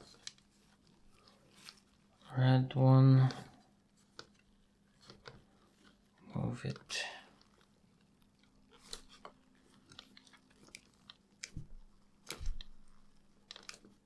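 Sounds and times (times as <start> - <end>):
small clicks taps and scrapes: 0.0 - 2.3, 3.0 - 14.0.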